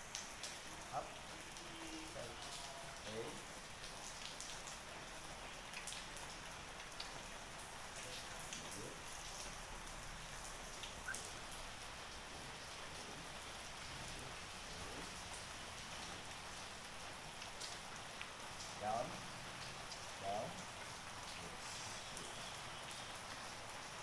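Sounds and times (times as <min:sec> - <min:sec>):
raindrops ticking: 0:00.0 - 0:24.0
steady rain falling: 0:00.0 - 0:24.0.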